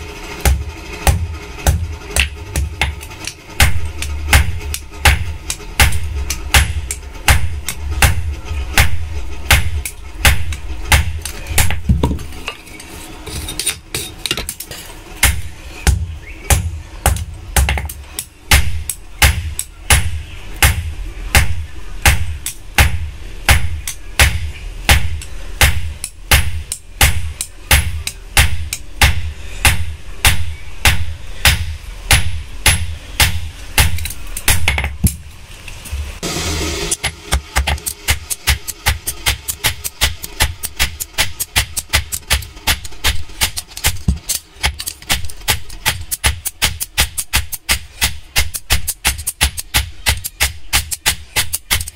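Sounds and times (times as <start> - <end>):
low steady hum: 0.0 - 51.9
hammer striking metal on anvil: 0.3 - 12.6, 13.4 - 35.2, 36.2 - 51.9.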